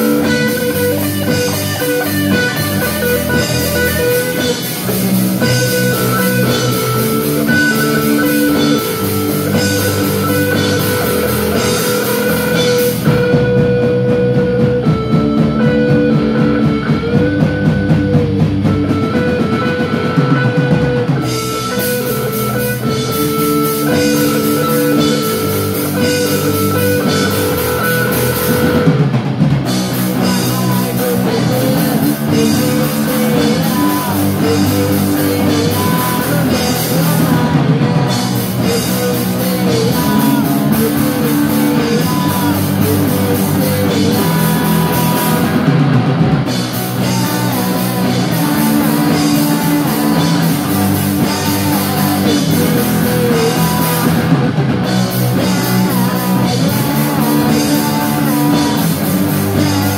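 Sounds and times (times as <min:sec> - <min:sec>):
drum kit: 0:00.0 - 0:59.9
electric guitars ringing: 0:00.0 - 0:59.9.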